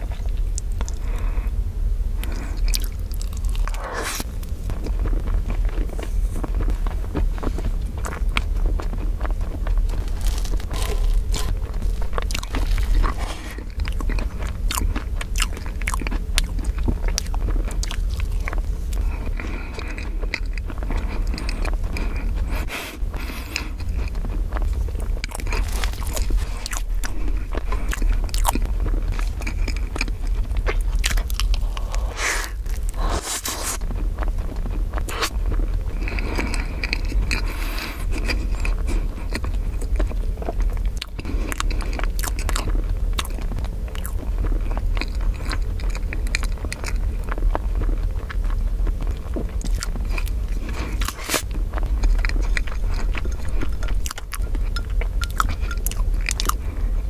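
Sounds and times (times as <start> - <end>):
close chewing mouth sounds: 0.0 - 1.5, 2.2 - 57.0
steady low hum: 0.0 - 57.0.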